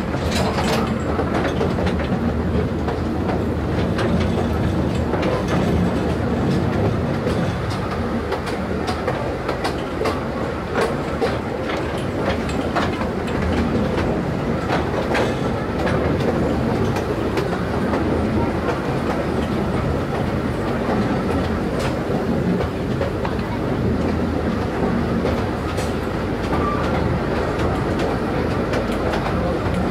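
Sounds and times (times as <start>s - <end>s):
train rumbling: 0.0s - 29.9s
wheels clacking on rails: 0.0s - 29.9s.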